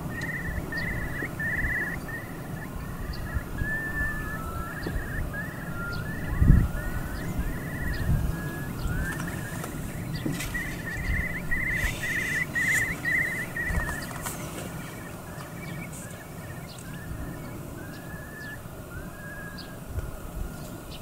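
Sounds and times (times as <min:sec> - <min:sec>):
curlew calling: 0:00.0 - 0:21.0.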